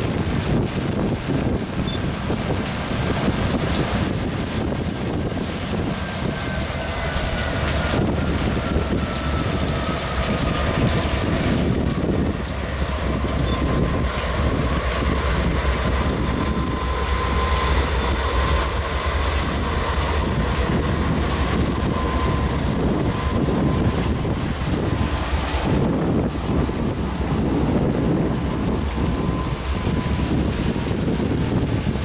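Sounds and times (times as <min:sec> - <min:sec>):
diesel locomotives passing: 0:00.0 - 0:32.0
wind rumble on microphone: 0:00.0 - 0:32.0.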